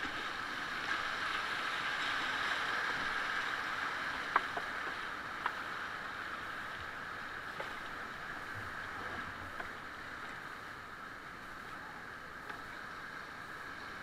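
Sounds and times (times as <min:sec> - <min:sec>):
rushing whitewater: 0:00.0 - 0:14.0.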